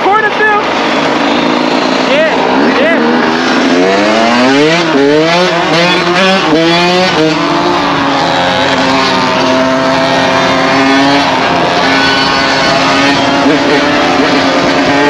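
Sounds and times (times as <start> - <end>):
dirt bike engine accelerating: 0.0 - 15.0.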